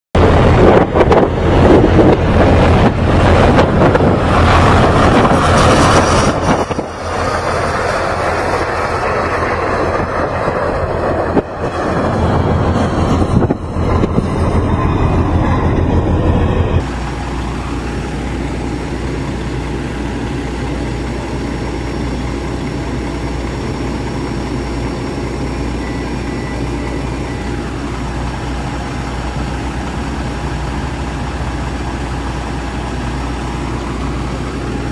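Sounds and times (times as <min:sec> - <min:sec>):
diesel truck idling: 0:00.2 - 0:34.9
gusty wind: 0:00.2 - 0:34.9.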